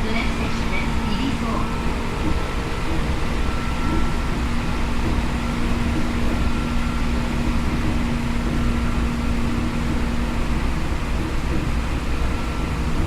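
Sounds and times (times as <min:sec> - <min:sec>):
low train hum: 0:00.0 - 0:13.0
train wheels rumbling on rail: 0:00.0 - 0:13.0.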